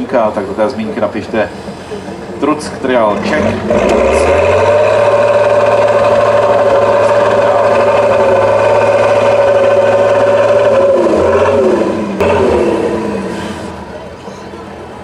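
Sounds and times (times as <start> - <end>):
diesel truck engine under load: 0.0 - 15.0.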